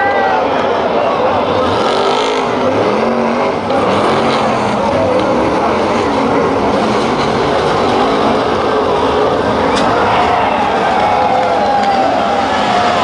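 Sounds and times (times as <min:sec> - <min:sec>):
many race car engines revving: 0:00.0 - 0:13.0.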